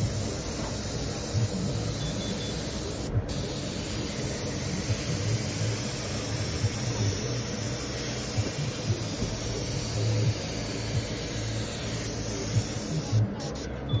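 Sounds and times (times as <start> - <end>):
rushing hiss of air: 0.0 - 13.8.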